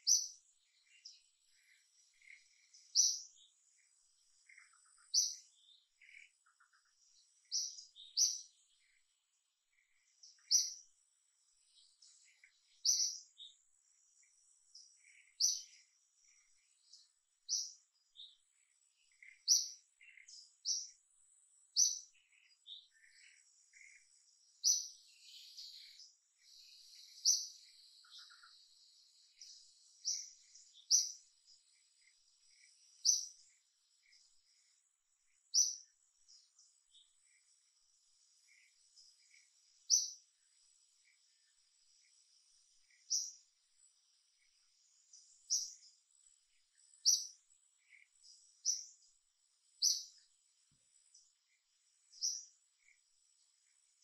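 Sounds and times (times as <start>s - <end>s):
faint high-pitched whine: 0.0s - 54.0s
small bird chirping: 0.0s - 54.0s.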